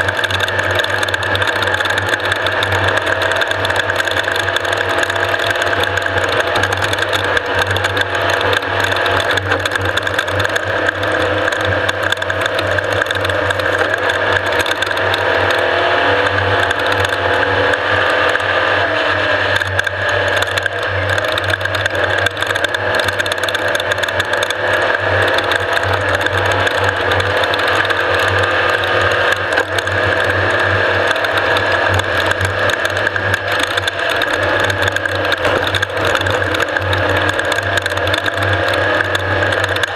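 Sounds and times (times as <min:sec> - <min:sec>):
vehicle engine drone: 0:00.0 - 0:39.9
vehicle rattling over rough ground: 0:00.0 - 0:39.9.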